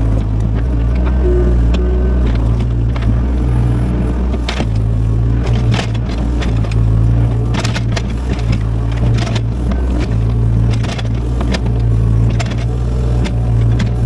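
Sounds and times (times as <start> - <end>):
excavator engine droning: 0.0 - 14.0
excavator knocking and scraping: 0.0 - 14.0.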